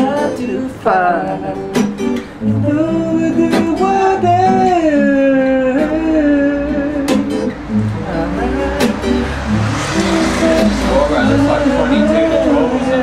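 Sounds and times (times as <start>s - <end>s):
acoustic guitar strumming: 0.0s - 13.0s
man singing slow melody: 0.0s - 13.0s.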